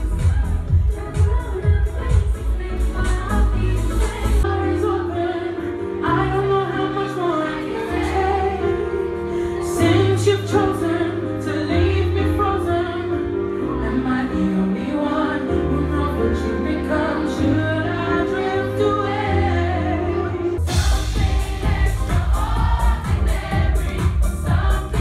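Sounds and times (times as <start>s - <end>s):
pop band playing: 0.0s - 25.0s.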